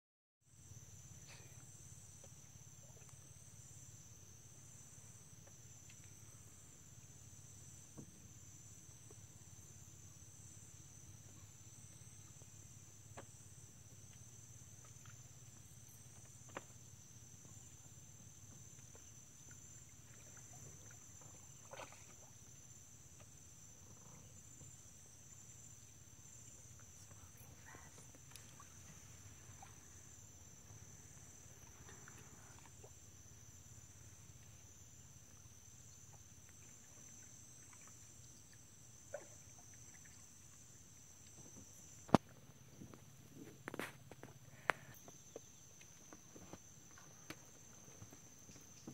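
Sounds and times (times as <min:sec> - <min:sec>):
crickets chirping: 0:00.4 - 0:48.9
low steady hum: 0:00.5 - 0:48.9.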